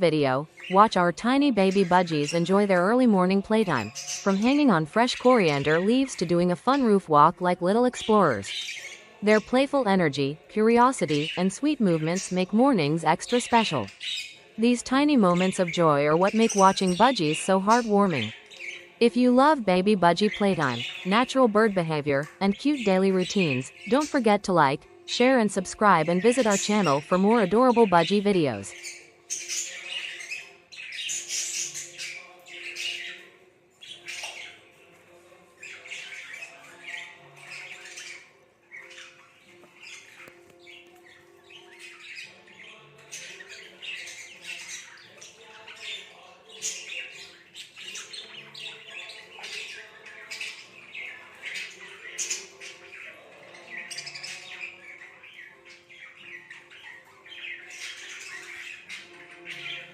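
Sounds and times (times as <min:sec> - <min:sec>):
baby budgerigars chirping: 0:00.0 - 0:59.9.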